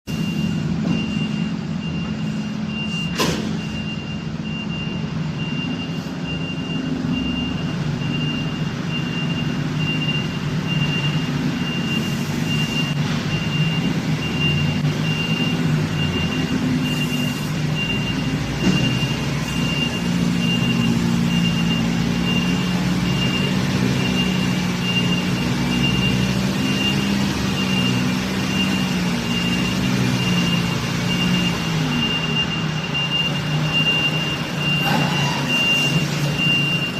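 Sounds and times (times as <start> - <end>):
truck engine running: 0.1 - 36.9.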